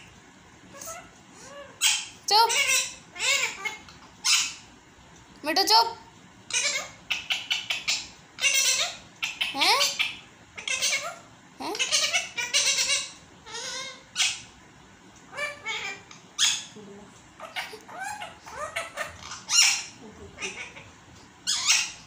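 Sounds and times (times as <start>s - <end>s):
parrot chirps and squawks: 0.7s - 4.8s, 6.5s - 14.6s, 15.3s - 16.8s, 17.4s - 22.0s.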